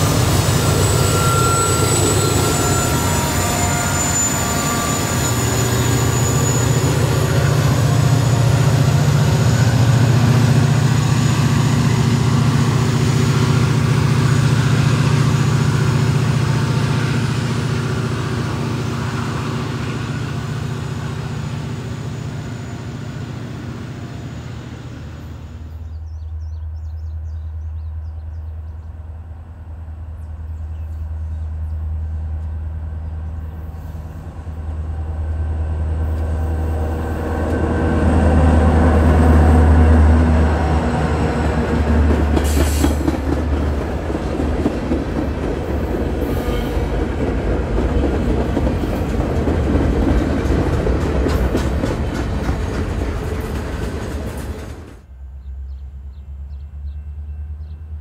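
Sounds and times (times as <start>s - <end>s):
diesel locomotives drone: 0.0s - 58.0s
lower diesel train drone: 0.0s - 58.0s.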